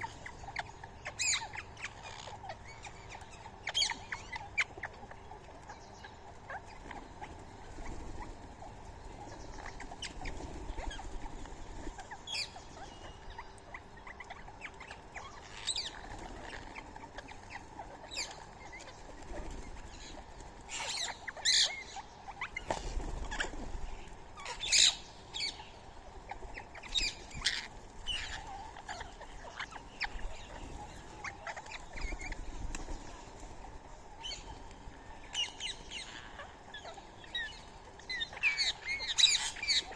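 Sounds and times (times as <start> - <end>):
low outdoor background noise: 0.0 - 39.9
small animals chirping: 0.0 - 39.9.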